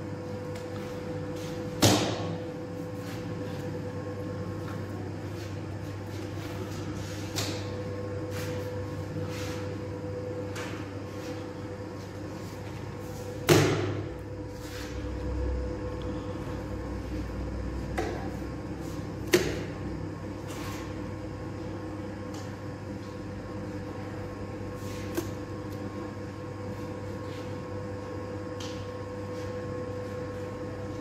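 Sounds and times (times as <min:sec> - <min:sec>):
dough mixer humming: 0:00.0 - 0:31.0.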